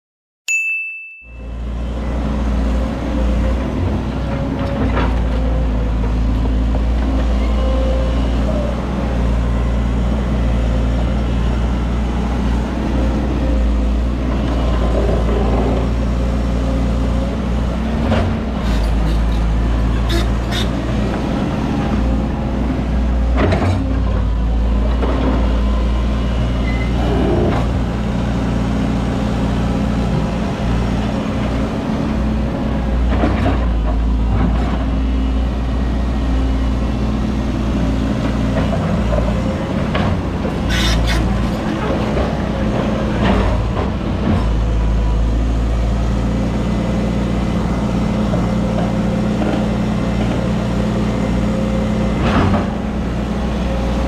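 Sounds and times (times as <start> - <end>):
heavy diesel engines running: 1.4 - 54.0.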